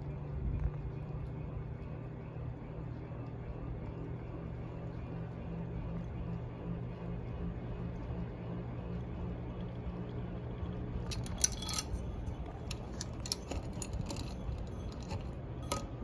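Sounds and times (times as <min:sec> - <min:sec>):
ceiling fan motor hum: 0:00.0 - 0:16.0.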